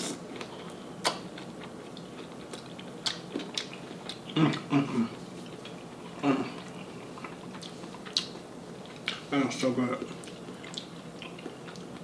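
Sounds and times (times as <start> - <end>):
person chewing food: 0.0 - 9.3, 9.9 - 12.0.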